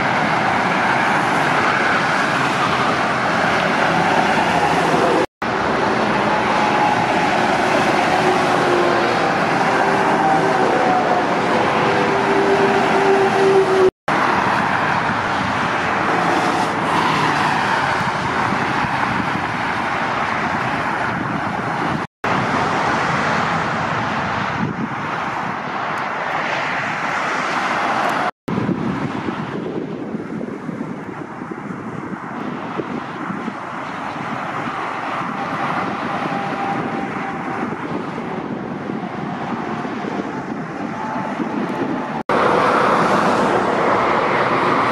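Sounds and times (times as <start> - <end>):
motorway traffic passing: 0.0 - 44.9.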